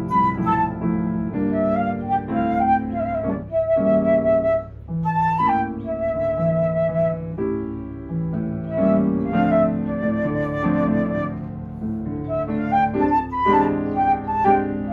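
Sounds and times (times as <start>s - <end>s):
flute playing slow melody: 0.0s - 7.5s, 8.7s - 14.9s
piano chords: 0.0s - 14.9s.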